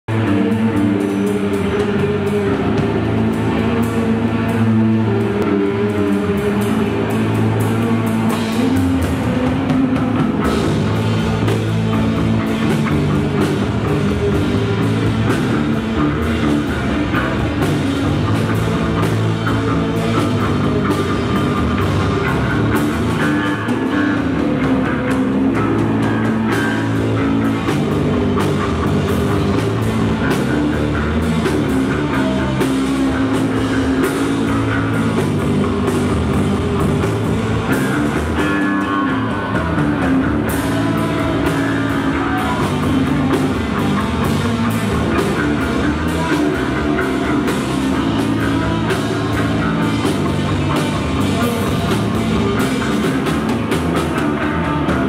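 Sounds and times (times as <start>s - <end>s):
bass guitar: 0.0s - 55.0s
electric guitar: 0.0s - 55.0s
drum kit: 0.1s - 55.0s.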